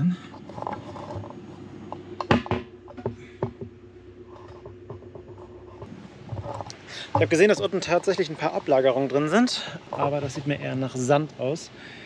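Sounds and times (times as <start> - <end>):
idling engine and air conditioning hum: 0.0 - 12.0.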